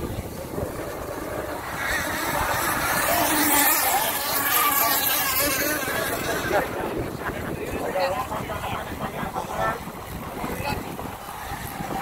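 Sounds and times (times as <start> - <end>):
rc boat engines whining: 0.0 - 12.0.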